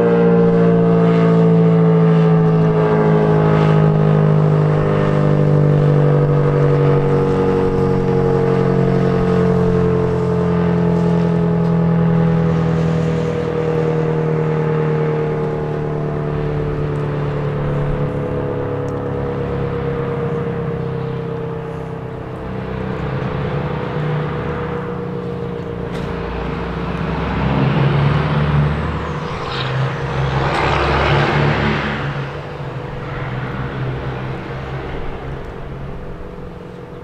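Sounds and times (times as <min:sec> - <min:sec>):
warning siren alert tone: 0:00.0 - 0:33.2
low steady drone: 0:00.0 - 0:37.0.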